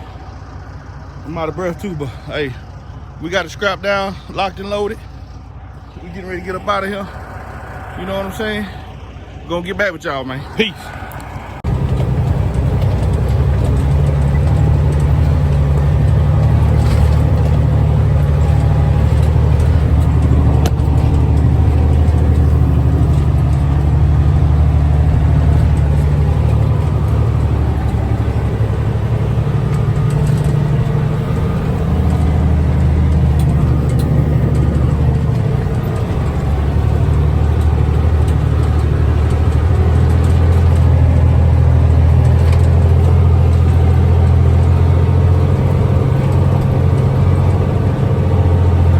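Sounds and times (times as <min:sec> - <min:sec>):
truck diesel engine droning: 0:00.0 - 0:48.9.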